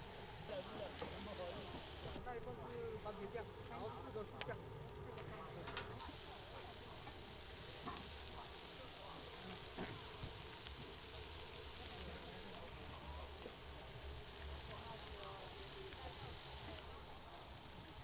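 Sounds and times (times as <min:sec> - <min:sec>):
batter and meat sizzling: 0:00.0 - 0:18.0.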